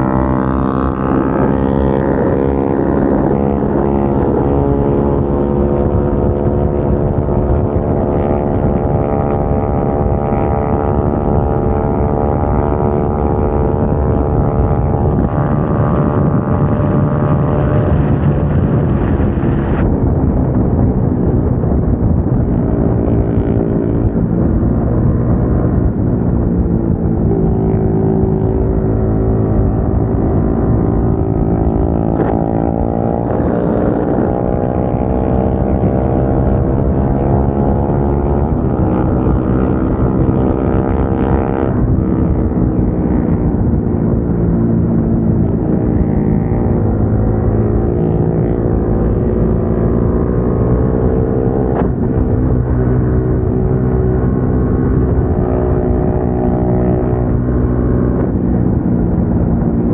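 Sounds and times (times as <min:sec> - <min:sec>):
motorcycle engines running: 0:00.0 - 0:59.9
wind and road noise: 0:00.0 - 0:59.9.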